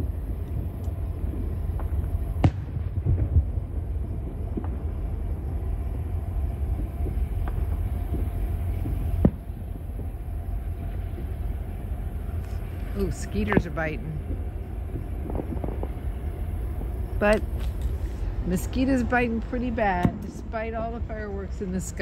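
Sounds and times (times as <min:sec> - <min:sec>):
distant fireworks bangs: 0:00.0 - 0:22.0
passing train rumble: 0:00.0 - 0:22.0.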